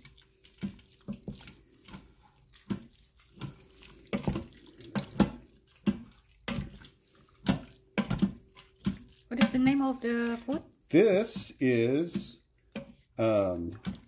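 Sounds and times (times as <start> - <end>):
wet sloshing of chili: 0.0 - 14.0.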